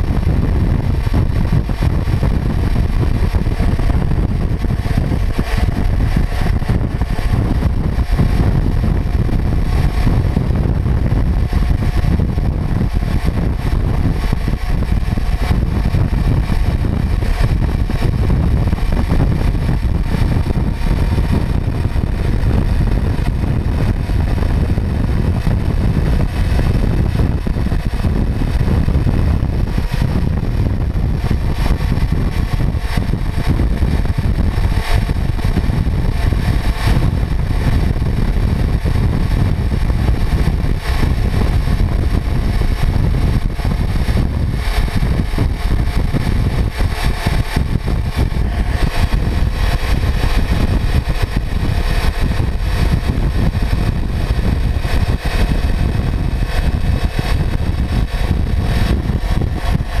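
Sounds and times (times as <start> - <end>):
motorcycle engine running: 0.0 - 60.0
wind rumble on microphone: 0.0 - 60.0.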